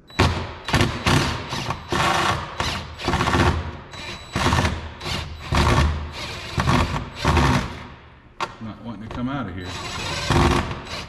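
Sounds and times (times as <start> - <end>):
impact driver hammering: 0.0 - 7.9, 9.7 - 11.0.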